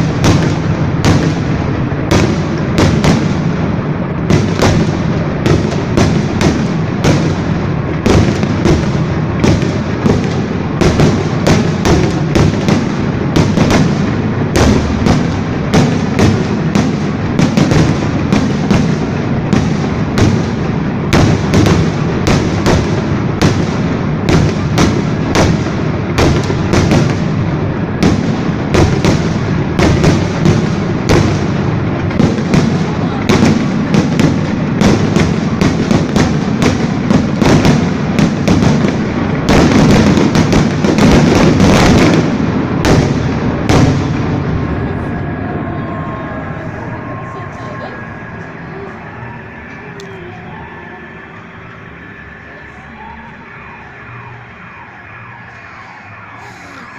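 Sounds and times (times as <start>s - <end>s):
low rumble of bursting shells: 0.0s - 48.5s
fireworks sharp bangs: 0.0s - 56.9s.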